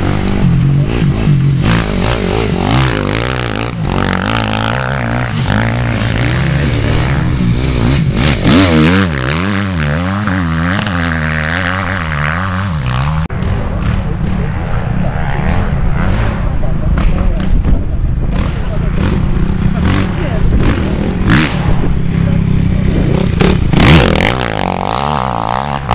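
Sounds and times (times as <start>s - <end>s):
motocross bike engines revving: 0.0s - 25.9s.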